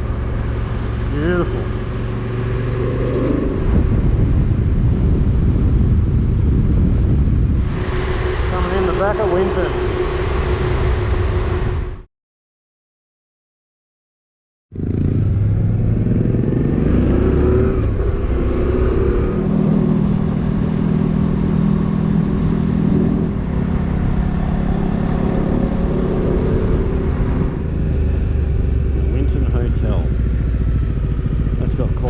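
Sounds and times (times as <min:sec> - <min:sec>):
motorcycle engine running: 0:00.0 - 0:11.6, 0:14.7 - 0:32.0.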